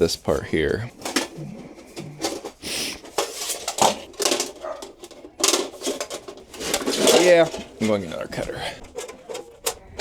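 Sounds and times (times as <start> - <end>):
sheet metal clicks and rattles: 1.0 - 10.0.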